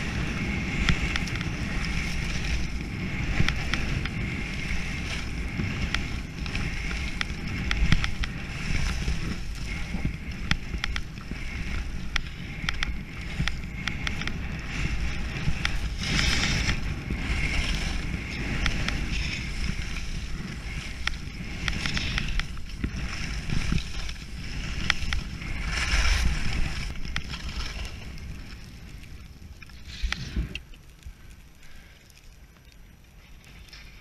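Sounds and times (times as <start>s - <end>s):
skis carving through snow: 0.0s - 34.0s
wind rumble on microphone: 0.0s - 34.0s.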